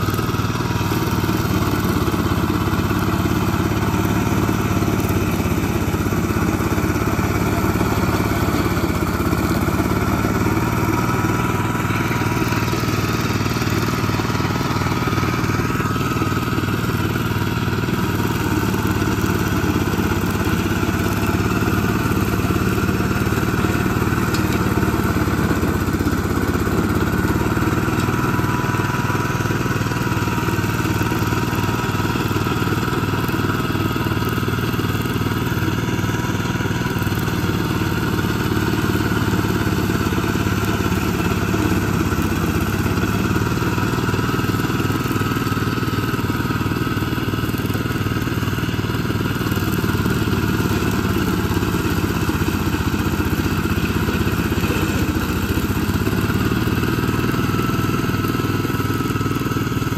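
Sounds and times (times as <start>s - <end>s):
rotary blades cutting brush: 0.0s - 59.9s
tractor engine running: 0.0s - 59.9s.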